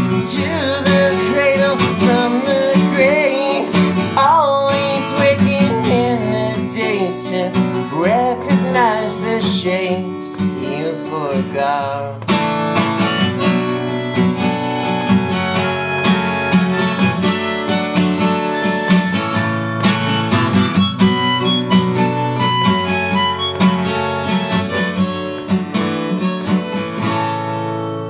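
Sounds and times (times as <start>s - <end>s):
harmonica solo: 0.0s - 10.8s, 12.5s - 28.0s
strummed acoustic guitar: 0.0s - 28.0s.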